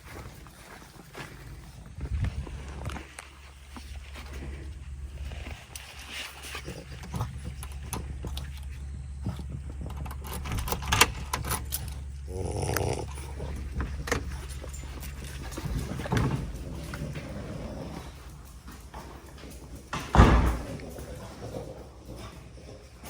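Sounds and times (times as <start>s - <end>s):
dog noises: 0.0s - 23.0s
steady low hum: 0.0s - 23.0s.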